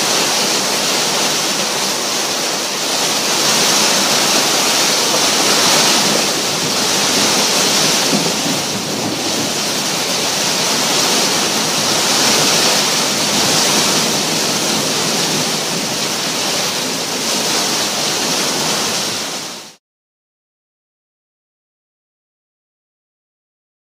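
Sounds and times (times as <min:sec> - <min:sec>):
heavy rain pouring: 0:00.0 - 0:19.8.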